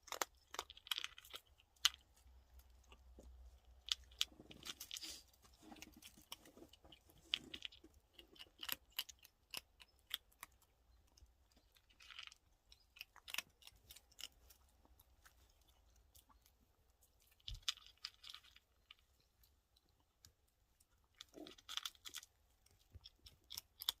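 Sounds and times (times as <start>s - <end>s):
faint crunching and clicking: 0.0s - 24.0s.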